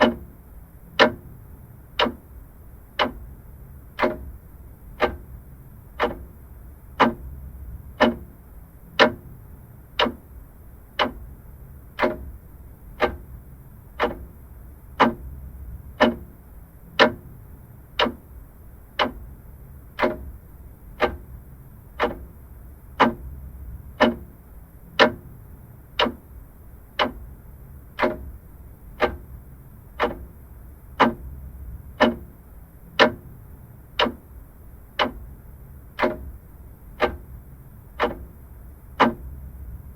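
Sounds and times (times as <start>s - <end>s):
mechanical clock ticking: 0.0s - 39.9s.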